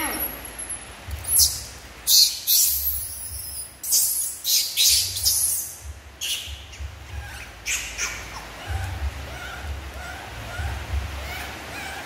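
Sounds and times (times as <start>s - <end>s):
baby monkey squealing: 1.2s - 12.0s.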